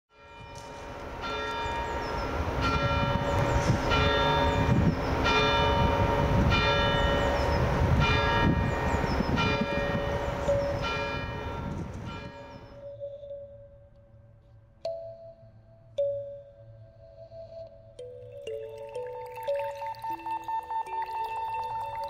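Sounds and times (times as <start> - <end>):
bells ringing: 0.1 - 13.9, 14.9 - 22.0.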